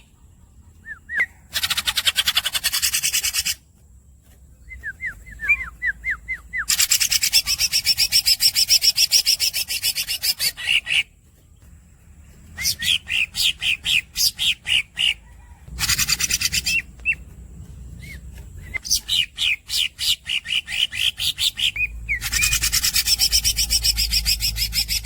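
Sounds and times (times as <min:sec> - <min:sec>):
bird singing: 0:00.0 - 0:25.0.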